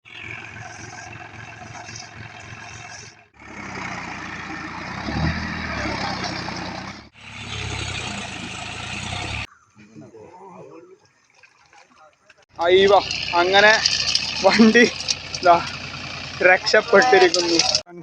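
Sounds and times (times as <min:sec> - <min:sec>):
tractor engine running: 0:00.0 - 0:09.5, 0:12.4 - 0:17.9.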